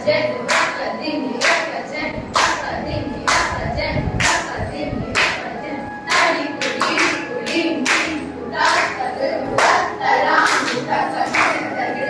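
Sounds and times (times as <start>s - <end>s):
voices reciting rhythm syllables: 0.0s - 12.0s
group clapping a beat: 0.4s - 5.5s, 6.1s - 11.9s.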